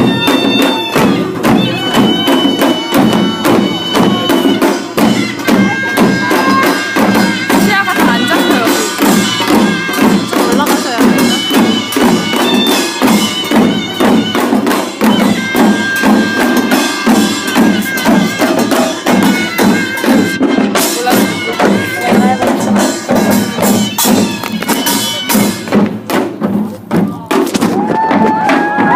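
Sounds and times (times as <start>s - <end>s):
drums and gongs rhythm: 0.0s - 28.9s
shawm melody: 0.0s - 28.9s.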